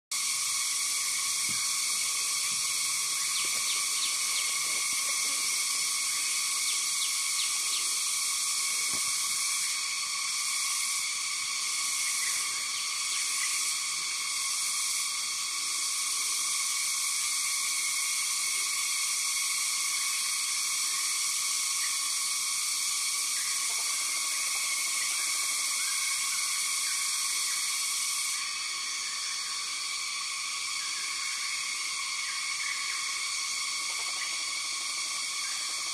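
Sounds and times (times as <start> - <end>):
forest insects chorus: 0.1 - 35.9
pulsing high insect trill: 0.2 - 35.9.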